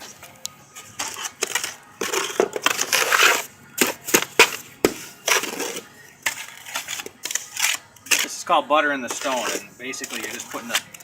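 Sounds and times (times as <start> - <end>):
trowel scraping mortar on stone: 0.8 - 11.0.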